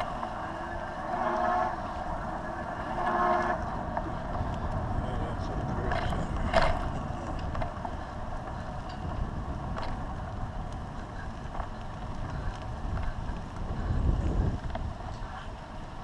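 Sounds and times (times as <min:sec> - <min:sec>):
faint clicks of bike wheels: 0:00.0 - 0:16.0
wind buffeting microphone: 0:00.0 - 0:16.0.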